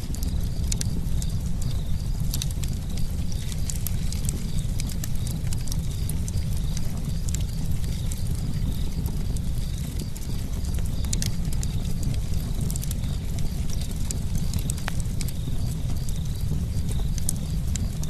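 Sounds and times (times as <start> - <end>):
low rumble of flames: 0.0 - 18.0
wood crackling and popping: 0.0 - 18.0.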